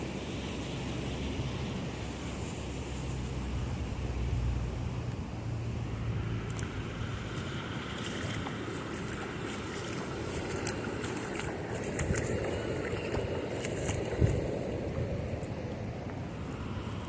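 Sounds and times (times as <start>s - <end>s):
low engine-like hum: 0.0s - 17.0s
water: 0.0s - 17.0s
wind: 0.0s - 17.0s.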